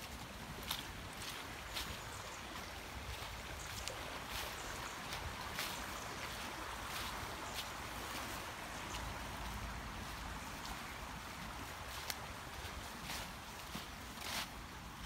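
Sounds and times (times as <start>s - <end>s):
fast-flowing river rushing: 0.0s - 15.0s
footsteps on leaf litter: 0.0s - 15.0s.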